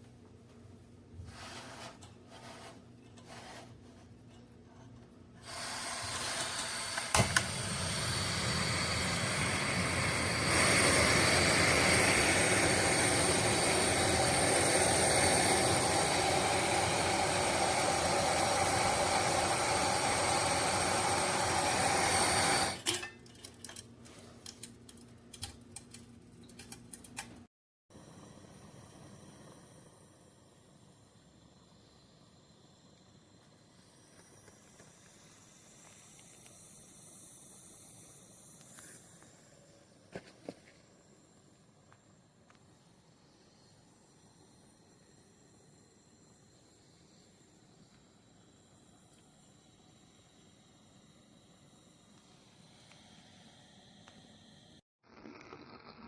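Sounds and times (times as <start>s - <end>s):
propane heater hissing: 1.2s - 4.2s, 5.3s - 26.0s, 27.9s - 54.8s.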